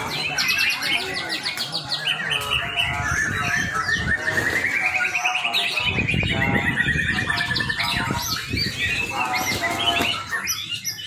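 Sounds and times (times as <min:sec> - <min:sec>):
bird singing trills and whistles: 0:00.0 - 0:11.0.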